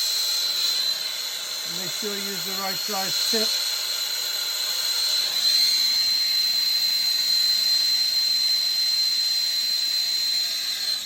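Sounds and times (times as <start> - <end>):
torch flame hissing and whistling: 0.0 - 11.0.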